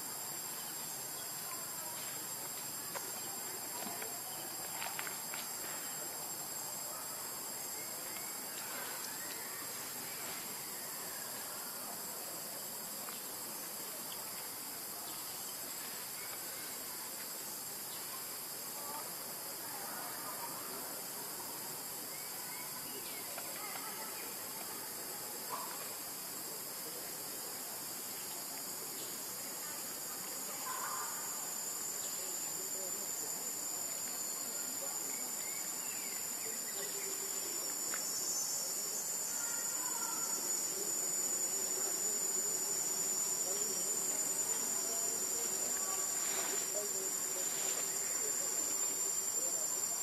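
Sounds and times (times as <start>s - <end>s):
faint insect chirps: 0.0s - 50.0s
insects droning chorus: 0.0s - 50.0s.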